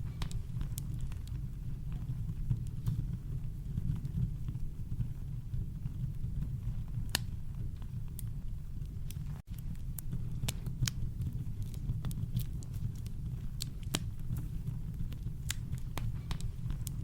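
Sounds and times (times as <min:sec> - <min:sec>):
campfire crackling: 0:00.0 - 0:17.0
sharp fire pops: 0:00.0 - 0:17.0.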